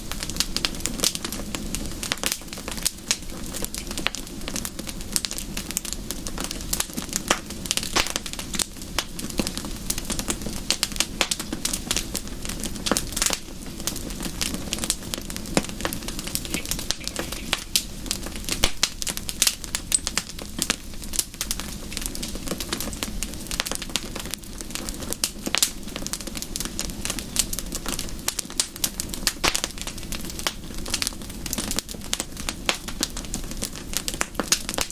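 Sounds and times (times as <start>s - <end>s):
low rush of flame: 0.0s - 34.9s
wood fire crackling: 0.0s - 34.9s.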